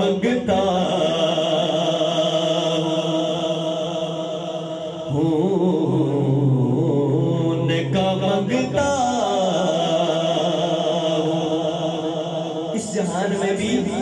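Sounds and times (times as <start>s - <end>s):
man singing through microphone: 0.0s - 14.0s.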